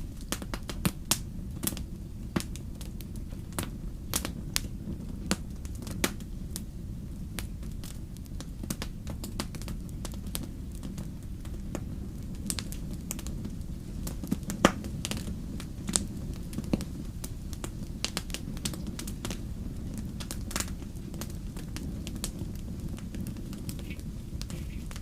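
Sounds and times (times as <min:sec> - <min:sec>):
fire crackling and popping: 0:00.0 - 0:25.0
low fire rumble: 0:00.0 - 0:25.0.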